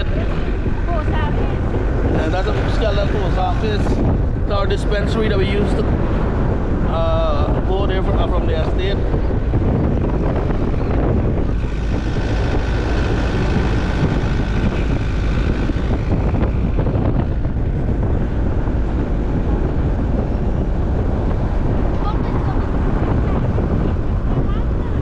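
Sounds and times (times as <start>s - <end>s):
high vehicle whine: 0.0s - 25.0s
road and wind rumble: 0.0s - 25.0s.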